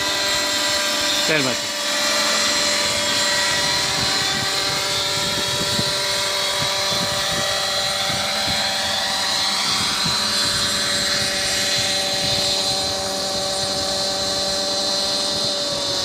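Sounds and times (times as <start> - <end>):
model helicopter engine and rotor: 0.0 - 16.0
wind rumbling on microphone: 2.4 - 16.0.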